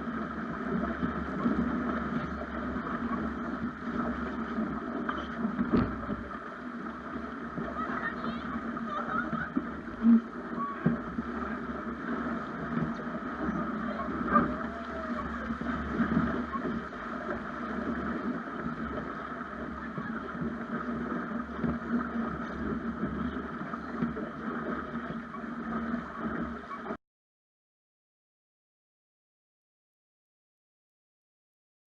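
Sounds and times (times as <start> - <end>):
water rushing along a hull: 0.0 - 27.0.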